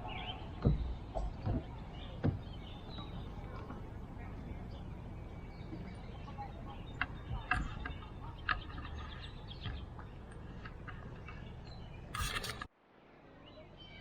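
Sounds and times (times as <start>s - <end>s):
birds chirping: 0.0s - 12.7s
low outdoor rumble: 0.0s - 14.0s.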